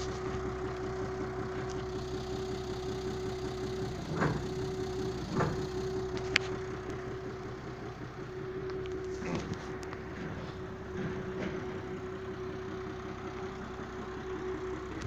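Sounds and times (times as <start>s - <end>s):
car engine idling with whine: 0.0s - 15.0s.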